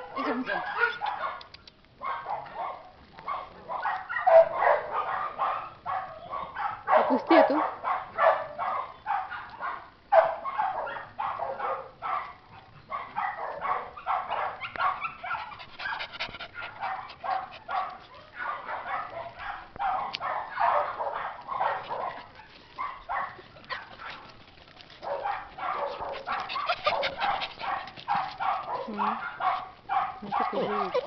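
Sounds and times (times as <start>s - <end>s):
dogs barking: 0.0s - 31.0s.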